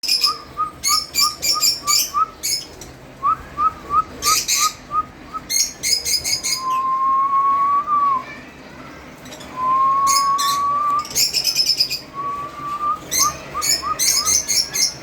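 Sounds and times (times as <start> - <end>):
lovebirds chirping: 0.0 - 7.0, 9.2 - 15.0.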